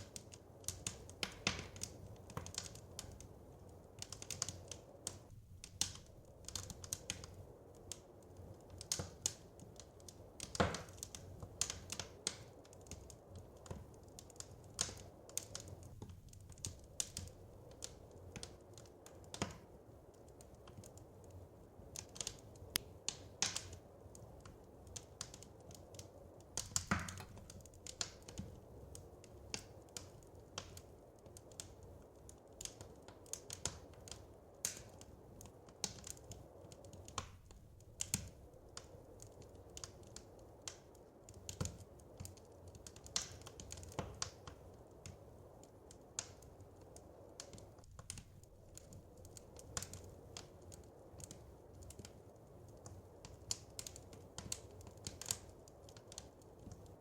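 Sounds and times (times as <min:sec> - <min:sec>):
faint low hiss: 0:00.0 - 0:57.0
wood fire crackling: 0:00.0 - 0:57.0.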